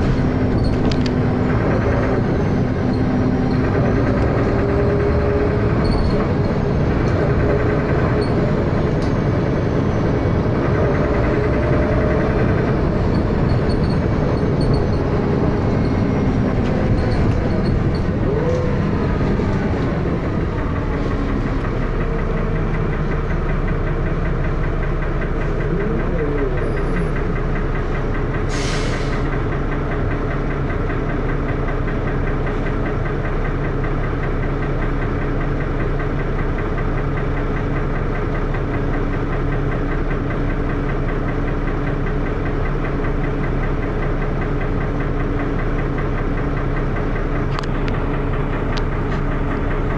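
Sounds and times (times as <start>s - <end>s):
rapid engine knocking: 0.0s - 28.5s, 29.3s - 49.9s
bus diesel engine idling: 0.0s - 49.9s.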